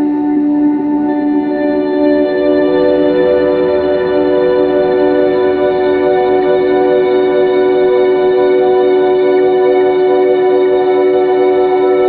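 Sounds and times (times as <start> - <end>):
background music of held notes: 0.0 - 12.0.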